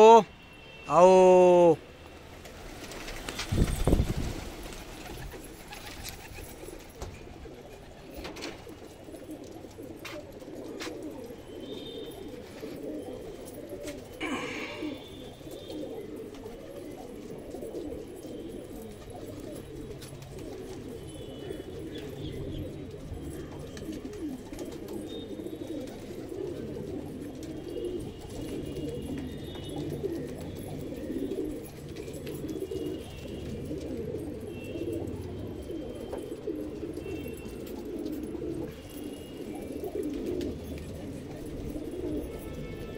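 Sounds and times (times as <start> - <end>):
pigeons cooing: 2.4 - 42.9.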